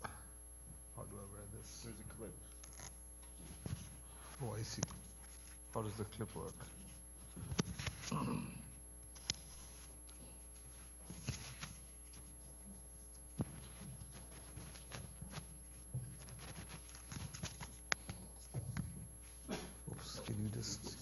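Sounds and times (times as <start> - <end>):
cloth rustling against microphone: 2.6 - 8.1, 9.2 - 20.7.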